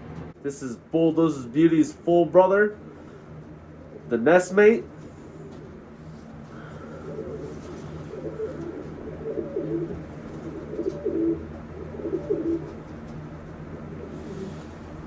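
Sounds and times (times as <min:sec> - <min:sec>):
steady low hum: 0:00.0 - 0:15.0
pigeons cooing: 0:02.8 - 0:15.0.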